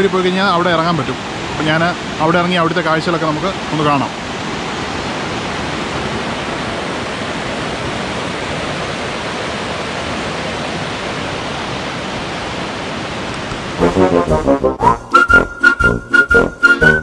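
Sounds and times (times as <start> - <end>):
river rapids and waterfall rushing: 0.0 - 14.0.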